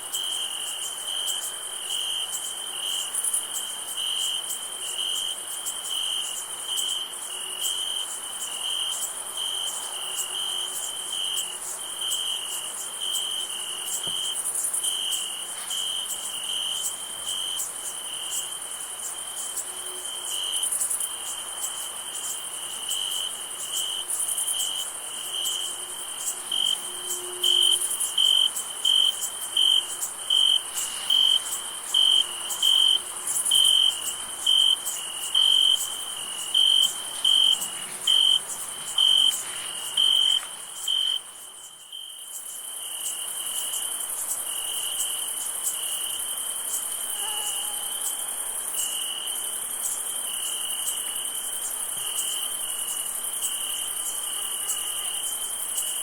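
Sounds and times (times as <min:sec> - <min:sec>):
cricket chirping: 0:00.0 - 0:56.0
insects trilling: 0:00.0 - 0:56.0.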